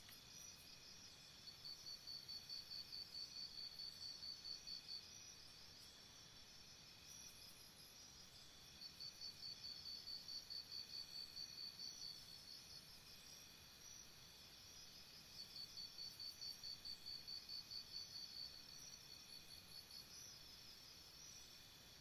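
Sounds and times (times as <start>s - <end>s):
cricket chirping: 0.0s - 22.0s
faint outdoor hiss: 0.0s - 22.0s.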